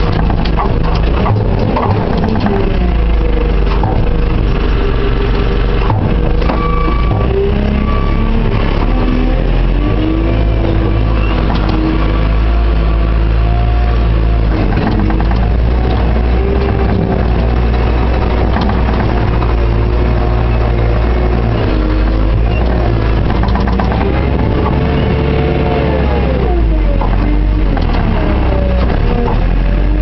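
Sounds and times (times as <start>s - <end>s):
diesel engine running: 0.0s - 30.0s
whining pitch rising and falling: 0.4s - 30.0s.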